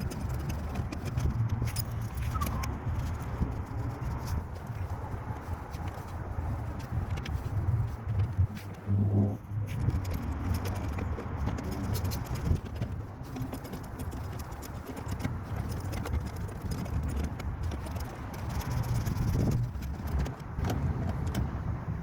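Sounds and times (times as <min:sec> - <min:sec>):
tools and small parts clinking: 0:00.0 - 0:07.4, 0:09.6 - 0:21.5
steady low rumble: 0:00.0 - 0:22.0.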